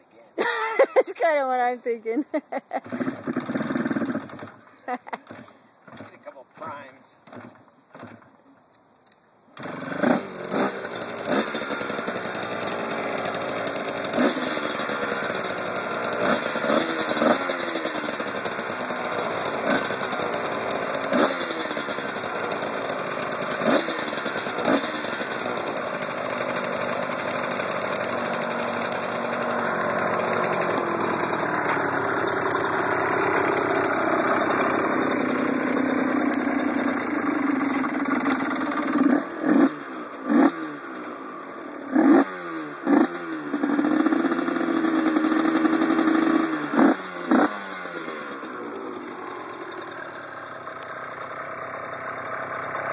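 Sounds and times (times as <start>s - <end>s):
motorcycle engine revving: 2.6s - 8.4s, 9.6s - 52.9s
motorcycle engine idling: 2.7s - 8.4s, 10.2s - 52.9s.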